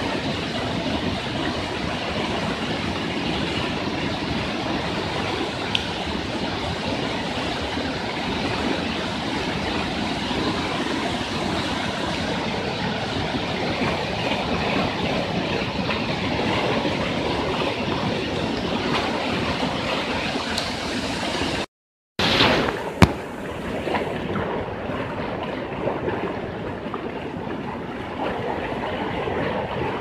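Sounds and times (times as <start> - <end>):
rushing floodwater: 0.0 - 30.0.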